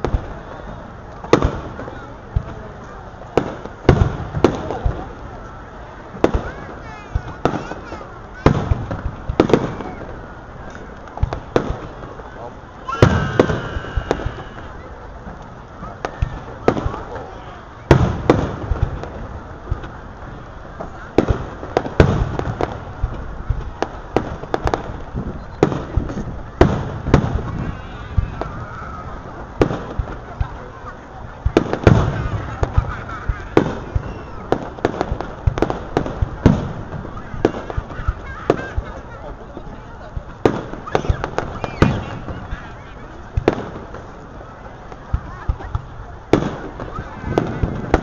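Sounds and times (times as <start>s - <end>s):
crowd voices: 0.0s - 48.0s
fireworks bangs with rumbling echoes: 0.0s - 48.0s.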